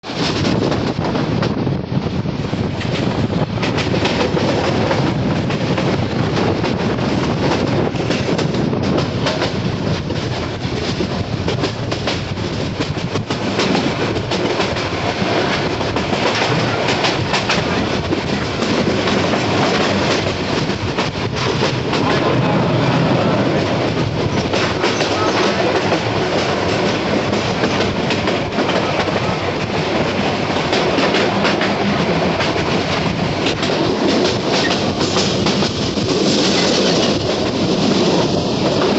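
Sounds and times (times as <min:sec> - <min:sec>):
train carriage rumble: 0:00.0 - 0:38.9.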